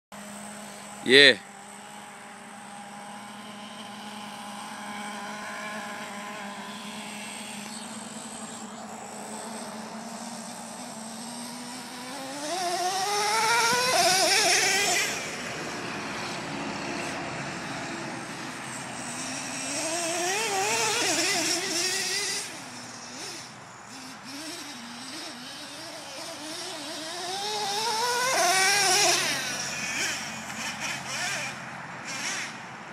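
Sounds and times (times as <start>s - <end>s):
rc truck nitro engine revving: 0.2s - 32.9s.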